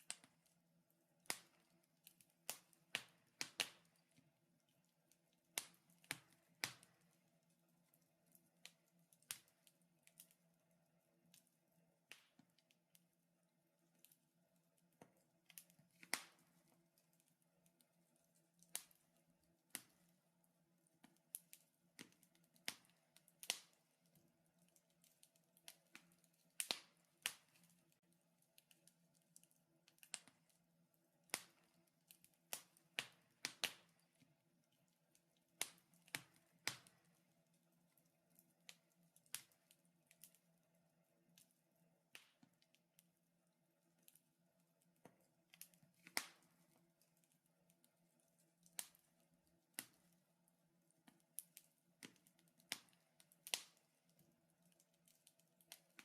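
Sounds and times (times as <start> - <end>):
wood fire crackling: 0.0 - 13.2, 13.8 - 43.1, 43.8 - 56.0.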